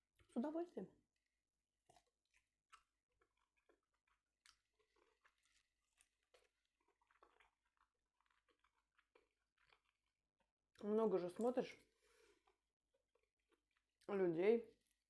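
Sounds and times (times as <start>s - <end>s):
mouth chewing food: 1.1s - 14.1s.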